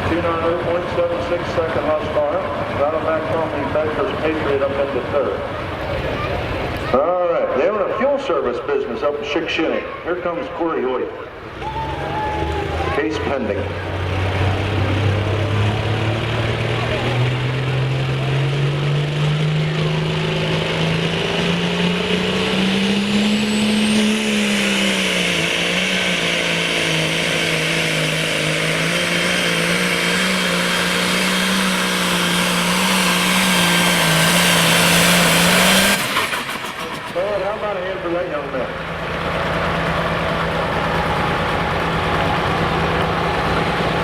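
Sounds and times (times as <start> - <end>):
tractor engine under full load: 0.0 - 44.0.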